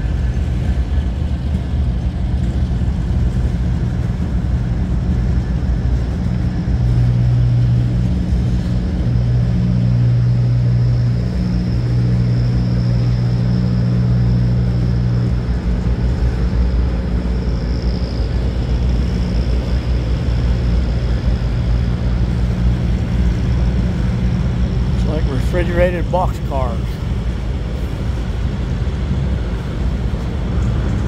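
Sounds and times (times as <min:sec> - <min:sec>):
freight train rolling past: 0:00.0 - 0:31.0
steady low hum: 0:00.0 - 0:31.0.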